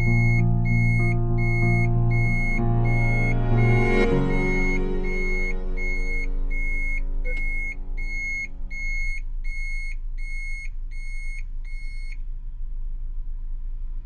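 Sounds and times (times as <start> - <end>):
short high alarm beeps: 0.0 - 12.2.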